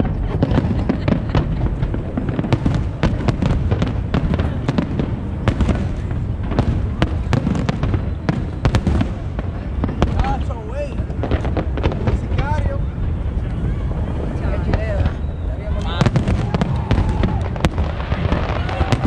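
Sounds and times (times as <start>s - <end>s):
fireworks bangs and crackles: 0.0s - 19.0s
low rumble of bursting shells: 0.0s - 19.0s.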